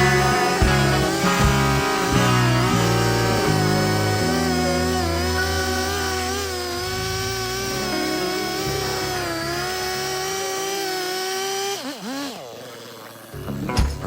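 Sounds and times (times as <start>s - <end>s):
chainsaw running under load: 0.0s - 14.0s.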